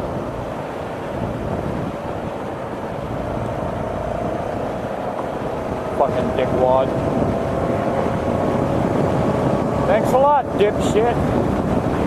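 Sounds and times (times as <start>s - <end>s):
car road noise at highway speed: 0.0s - 12.0s.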